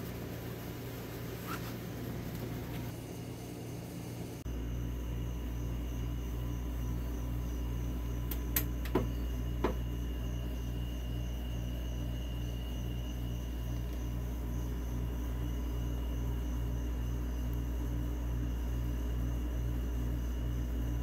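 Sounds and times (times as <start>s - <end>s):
pulsing mechanical hum: 0.0s - 21.0s.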